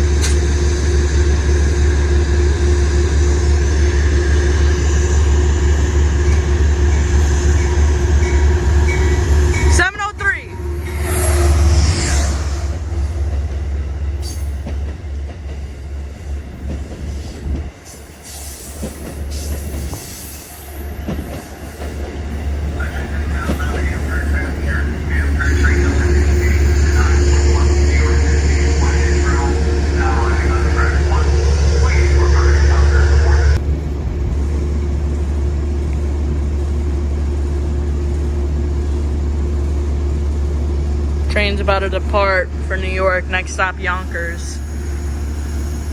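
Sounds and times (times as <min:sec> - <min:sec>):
train rumbling on tracks: 0:00.0 - 0:45.9.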